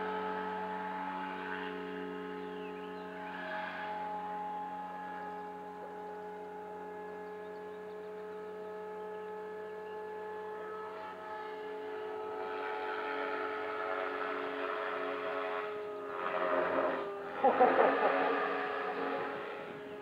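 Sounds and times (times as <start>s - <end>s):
model aircraft motor and propeller hum: 0.0s - 20.0s.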